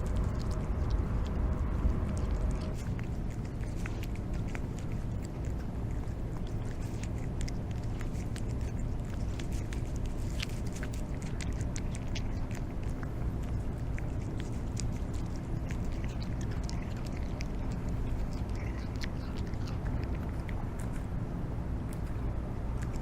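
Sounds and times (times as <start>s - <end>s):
cats chewing: 0.0s - 23.0s
steady low rumble: 0.0s - 23.0s.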